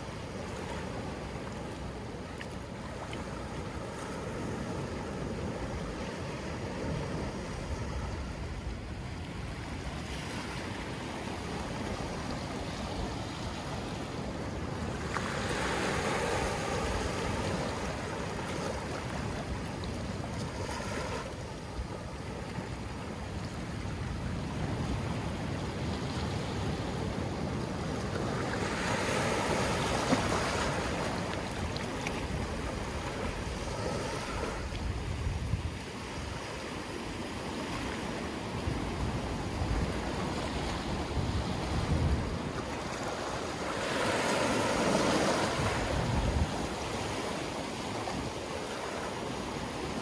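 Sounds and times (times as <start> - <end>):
small waves washing over sand: 0.0 - 50.0.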